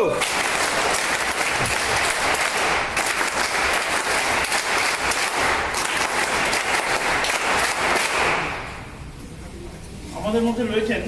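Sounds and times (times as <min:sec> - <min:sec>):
audience clapping: 0:00.0 - 0:08.9.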